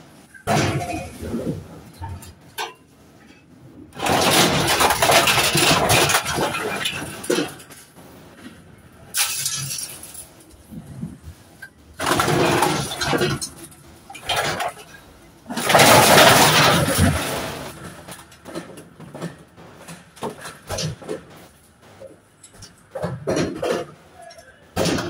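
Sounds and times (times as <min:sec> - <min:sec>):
scrap metal clanking and scraping: 0:00.2 - 0:25.0.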